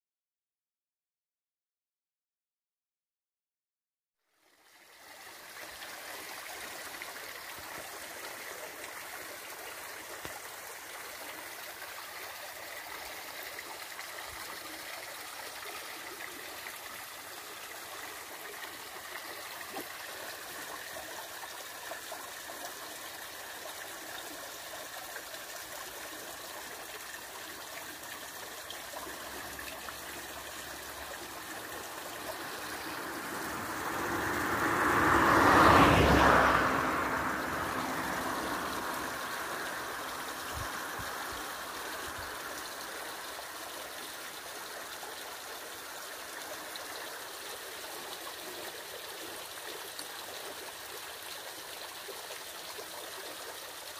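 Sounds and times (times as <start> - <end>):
stream flowing: 4.3 - 53.9.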